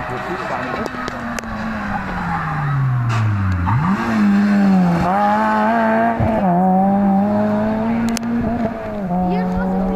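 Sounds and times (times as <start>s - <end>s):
rally car engine revving: 0.0s - 9.9s.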